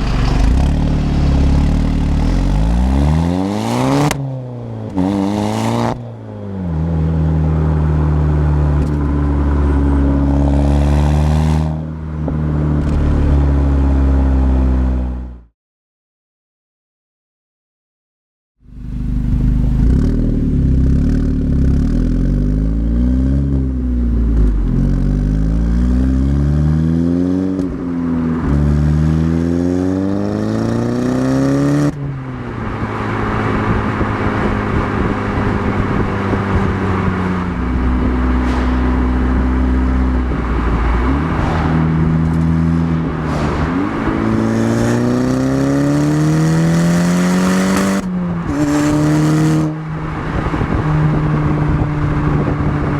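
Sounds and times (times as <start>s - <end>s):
car exhaust accelerating through gears: 0.0s - 15.4s, 18.7s - 52.9s.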